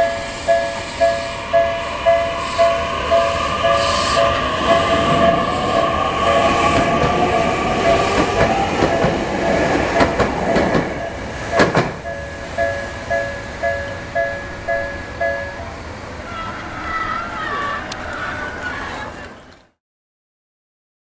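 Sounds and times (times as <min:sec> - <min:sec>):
level crossing bell clanging: 0:00.0 - 0:18.0
electric train running: 0:00.0 - 0:19.6
wheels clicking over rail joints: 0:00.0 - 0:19.8.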